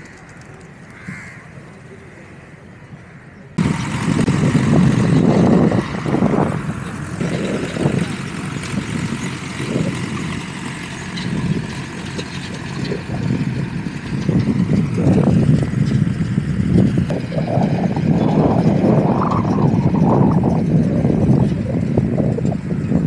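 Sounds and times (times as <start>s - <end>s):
steady outdoor hiss: 0.0s - 21.2s
wind buffeting microphone: 3.6s - 23.0s.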